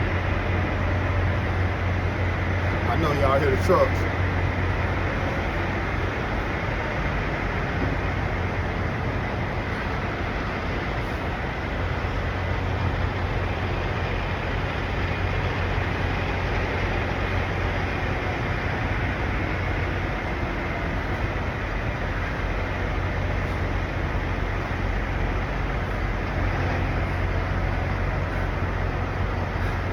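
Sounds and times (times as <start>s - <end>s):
diesel truck engines running: 0.0s - 29.9s.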